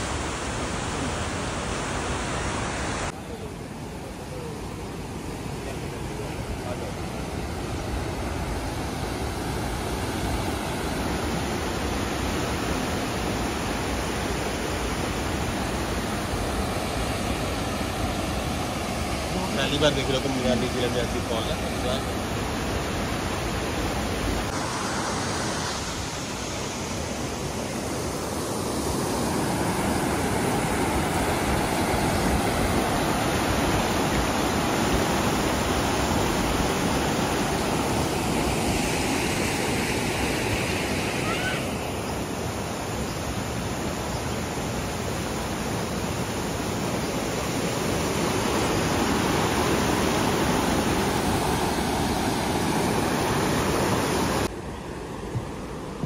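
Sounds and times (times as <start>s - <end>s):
water rushing over falls: 0.0s - 56.0s.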